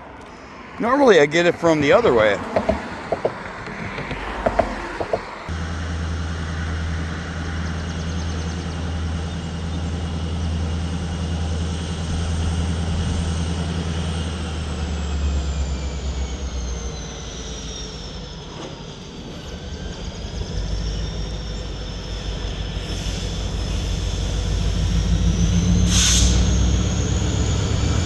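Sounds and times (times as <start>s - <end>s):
freight train rumble: 0.0s - 28.0s.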